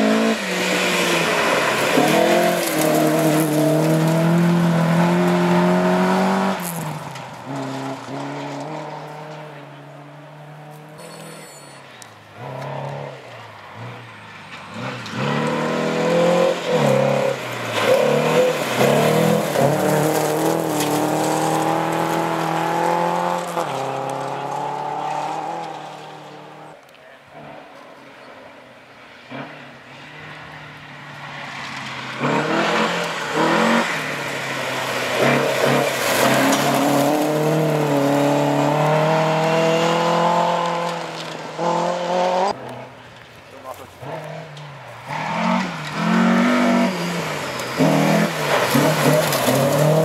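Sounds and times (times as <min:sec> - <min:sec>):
rally car accelerating past: 0:00.0 - 0:11.1, 0:12.4 - 0:26.8, 0:29.1 - 0:43.1, 0:44.0 - 0:50.0
rally car engine approaching: 0:00.0 - 0:50.0.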